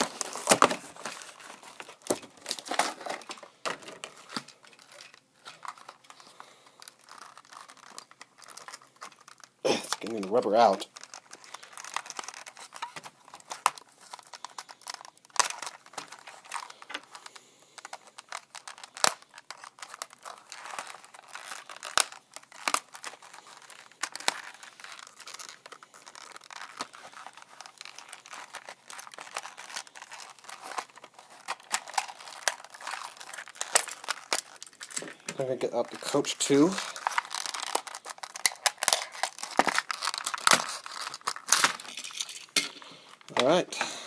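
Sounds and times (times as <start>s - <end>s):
packaging crinkling and tearing: 0.0s - 44.0s.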